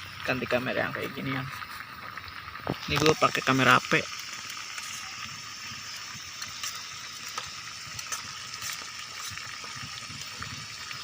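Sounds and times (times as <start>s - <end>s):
soup boiling with pops: 0.0s - 11.0s.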